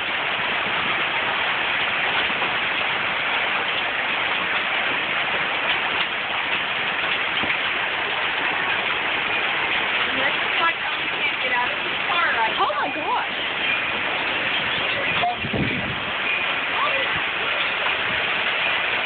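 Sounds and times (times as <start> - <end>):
heavy rain and hail: 0.0 - 19.0.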